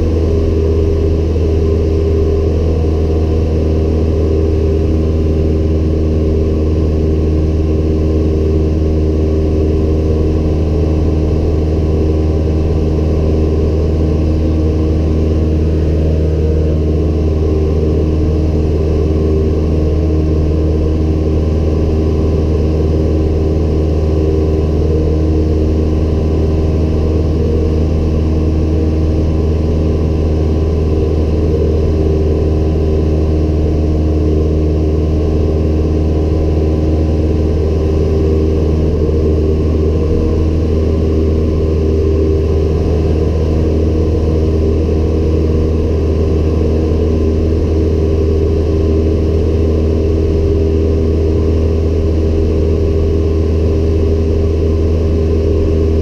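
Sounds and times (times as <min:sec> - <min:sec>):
airplane engine drone in cabin: 0:00.0 - 0:56.0.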